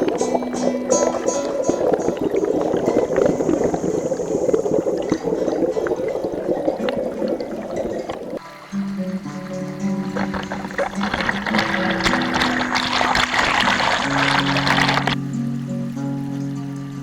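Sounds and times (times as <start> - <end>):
river water gurgling over rocks: 0.0 - 8.4, 9.2 - 15.2.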